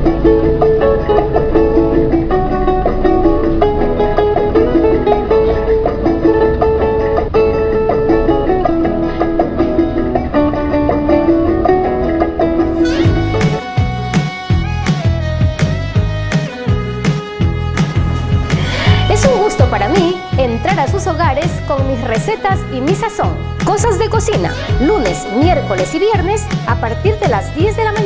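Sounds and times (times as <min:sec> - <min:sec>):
plucked string music: 0:00.0 - 0:28.0.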